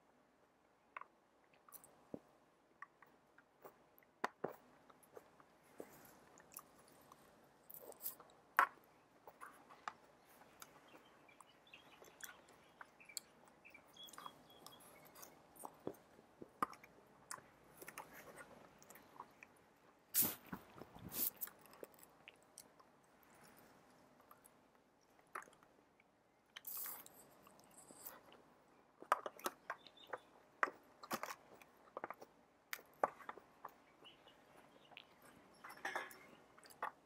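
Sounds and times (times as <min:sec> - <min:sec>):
chewing salad greens: 0:01.0 - 0:37.0.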